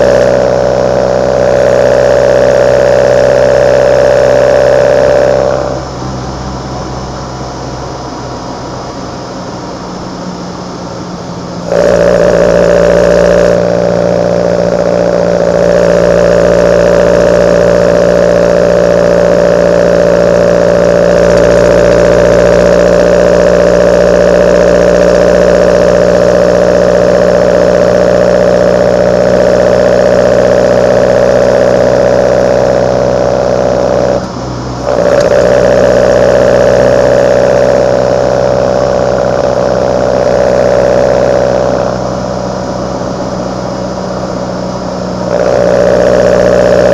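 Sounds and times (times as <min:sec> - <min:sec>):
engine intake running steadily: 0:00.0 - 0:46.9.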